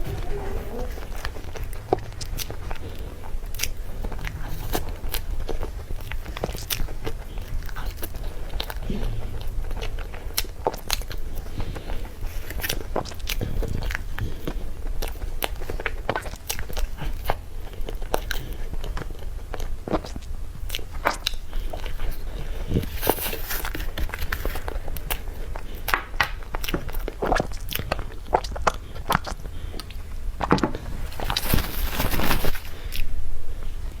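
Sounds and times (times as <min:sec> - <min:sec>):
chewing with wet mouth clicks: 0:00.0 - 0:33.1
steady low hum: 0:00.0 - 0:34.0.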